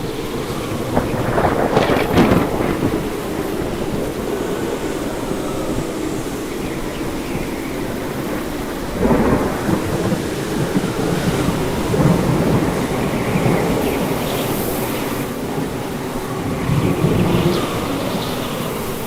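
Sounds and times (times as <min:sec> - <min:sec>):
rolling thunder rumble: 0:00.0 - 0:19.0
steady rain: 0:00.0 - 0:19.0.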